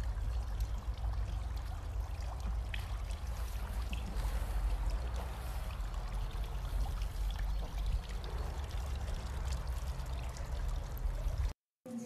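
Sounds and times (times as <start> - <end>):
fountain water splashing: 0.0 - 11.5.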